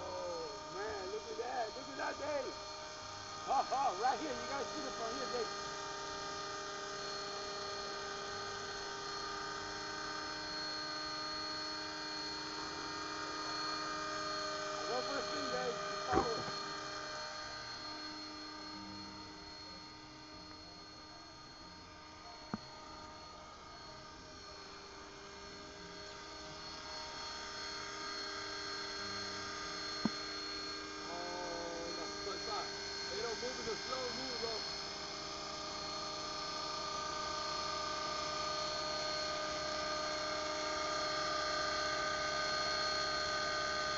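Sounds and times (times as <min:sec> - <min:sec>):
model helicopter motor whine: 0:00.0 - 0:43.9.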